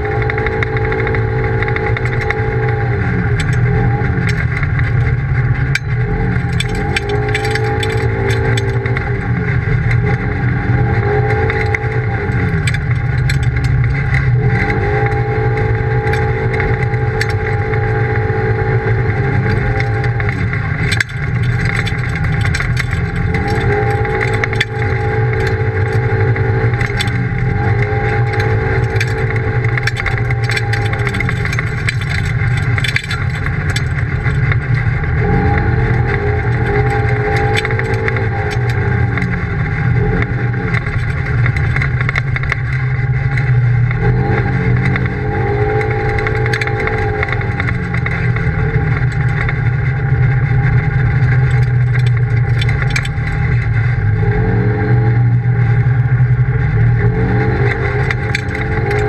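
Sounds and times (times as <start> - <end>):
engine revving: 0.0 - 59.0
small clicks and rattles: 0.0 - 59.0.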